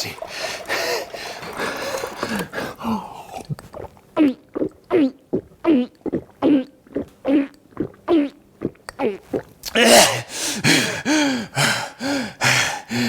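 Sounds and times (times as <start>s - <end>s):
loud throaty gulps: 0.0s - 11.1s
person slurping water: 0.0s - 11.7s.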